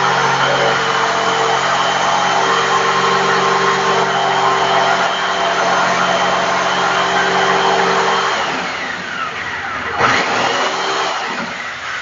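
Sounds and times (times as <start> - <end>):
electric jigsaw cutting wood: 0.0 - 12.0.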